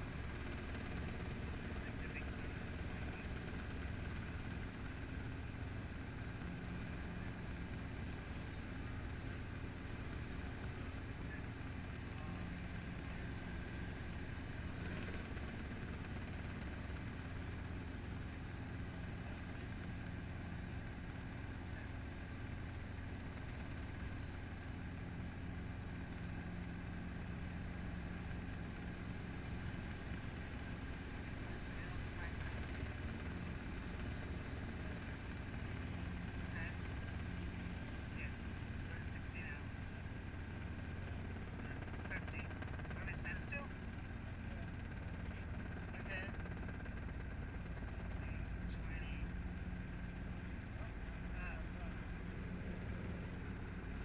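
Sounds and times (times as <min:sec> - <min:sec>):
helicopter engine and rotors droning: 0:00.0 - 0:54.0.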